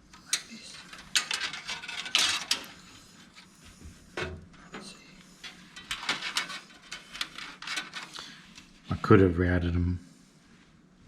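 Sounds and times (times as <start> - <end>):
cables rustling: 0.0 - 9.0.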